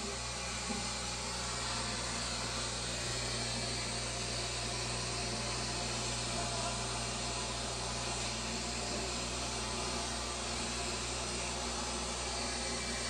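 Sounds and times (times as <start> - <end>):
aquarium equipment humming: 0.0 - 13.0.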